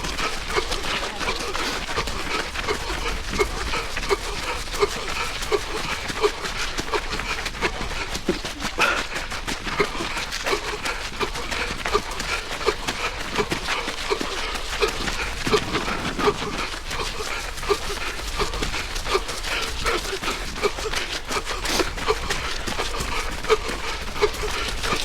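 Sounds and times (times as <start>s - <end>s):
runner breathing hard and wheezing: 0.0s - 25.0s.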